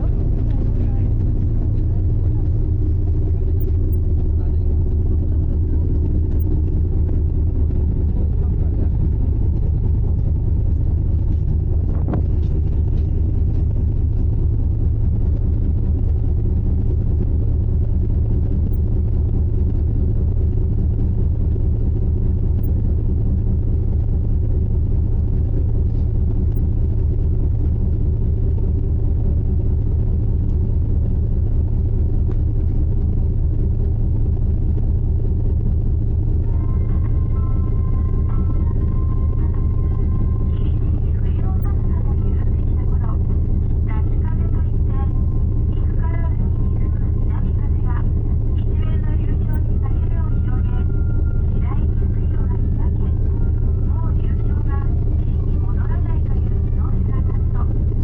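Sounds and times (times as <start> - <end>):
ship engine drone: 0.0 - 58.0.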